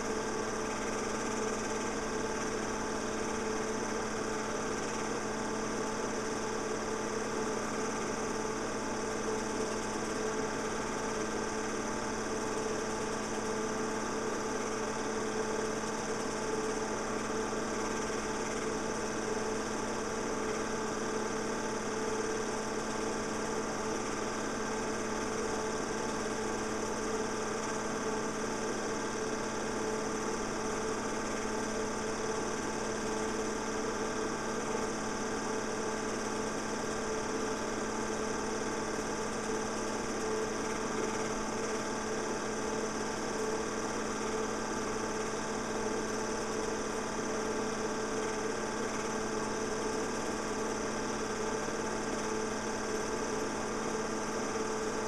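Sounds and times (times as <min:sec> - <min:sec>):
film projector humming: 0:00.0 - 0:55.0.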